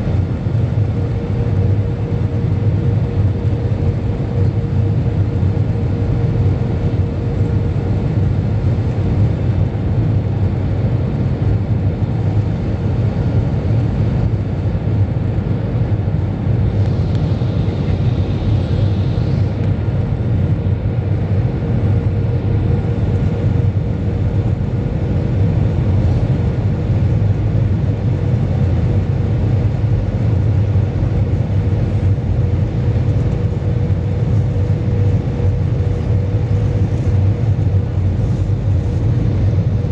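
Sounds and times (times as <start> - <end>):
airplane cabin engine rumble: 0.0 - 39.9
constant hum: 0.0 - 39.9.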